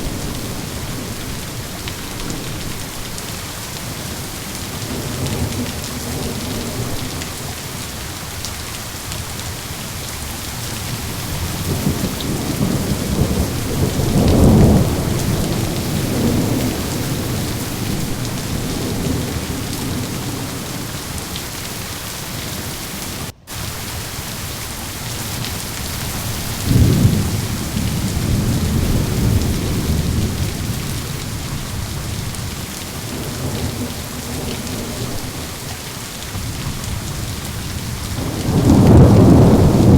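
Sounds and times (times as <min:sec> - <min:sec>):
rolling thunder: 0:00.0 - 0:07.8, 0:10.6 - 0:21.6, 0:25.3 - 0:39.9
steady rain: 0:00.0 - 0:39.9.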